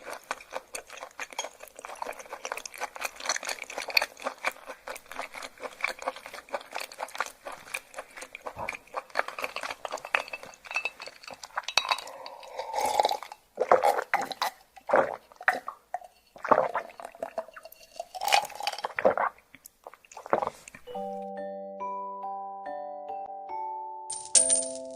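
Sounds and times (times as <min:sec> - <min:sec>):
wet chewing: 0:00.0 - 0:20.9.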